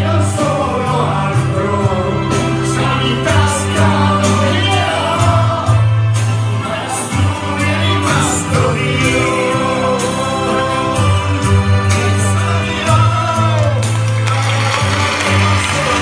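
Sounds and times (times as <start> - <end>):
people singing through pa system: 0.0 - 14.1
bass line: 0.0 - 16.0.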